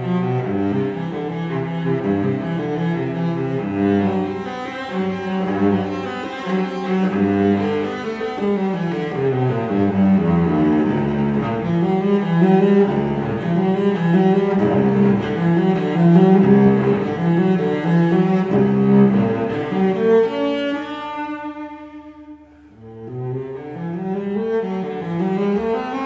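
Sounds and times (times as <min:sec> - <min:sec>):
low bowed strings music: 0:00.0 - 0:26.0.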